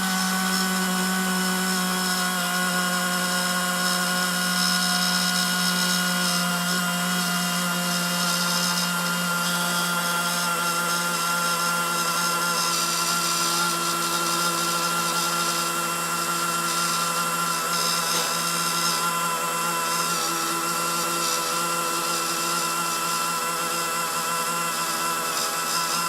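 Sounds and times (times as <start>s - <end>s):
small electric motor humming: 0.0s - 26.0s.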